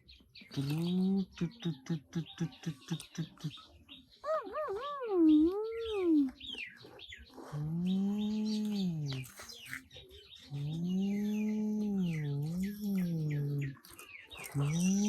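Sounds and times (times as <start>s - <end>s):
birds chirping and twittering: 0.0s - 15.0s
long low bird calls: 0.4s - 15.0s.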